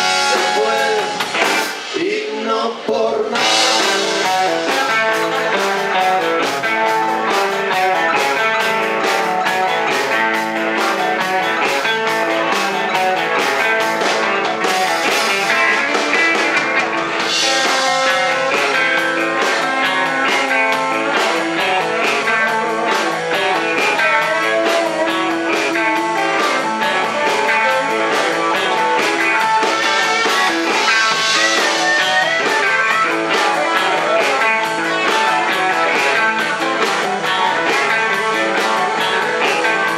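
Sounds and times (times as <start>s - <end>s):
drum beat: 0.0s - 2.3s, 3.4s - 39.9s
electric guitars: 0.0s - 39.9s.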